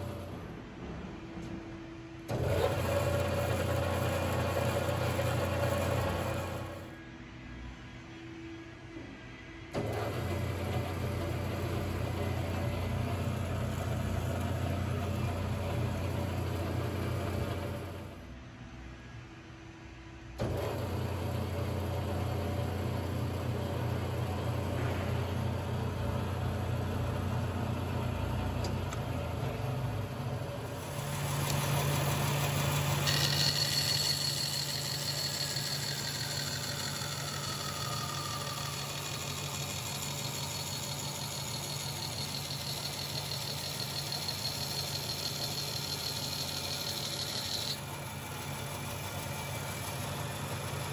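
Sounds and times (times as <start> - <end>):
bandsaw humming: 0.0 - 0.3, 2.3 - 7.0, 9.8 - 18.2, 20.4 - 50.9.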